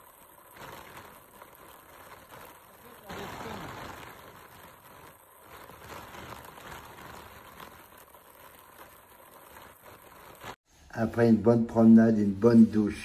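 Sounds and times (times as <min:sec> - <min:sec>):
rain falling on water: 0:00.0 - 0:10.6.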